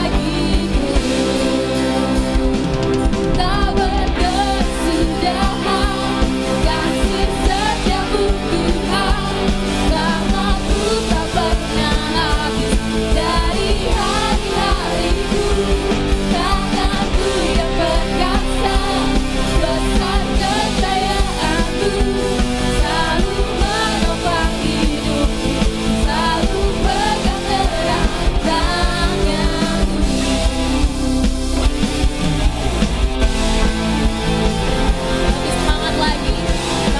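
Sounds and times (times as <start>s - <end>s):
worship band music: 0.0s - 36.9s.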